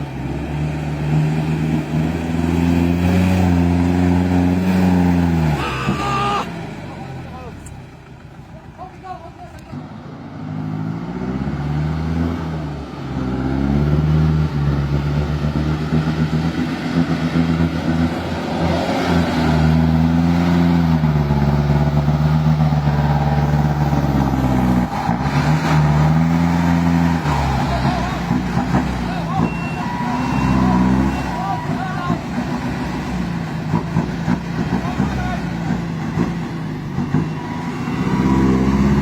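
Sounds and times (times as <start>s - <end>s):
truck engine revving: 0.0s - 8.4s, 9.6s - 39.0s.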